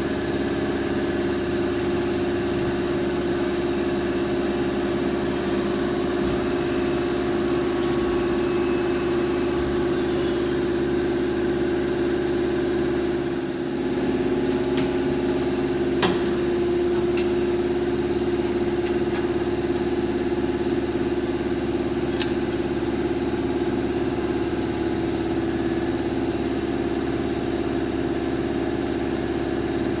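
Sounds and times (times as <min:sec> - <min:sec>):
lathe running: 0:00.0 - 0:25.7.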